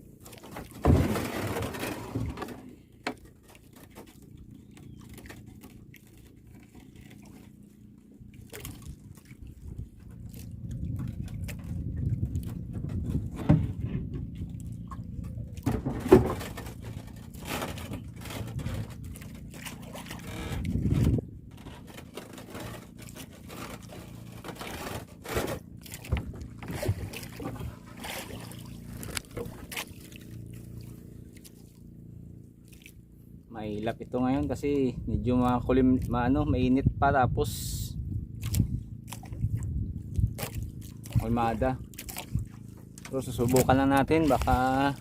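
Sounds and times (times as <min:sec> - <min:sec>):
boat engine running: 0:00.0 - 0:45.0
water splashes: 0:00.0 - 0:45.0.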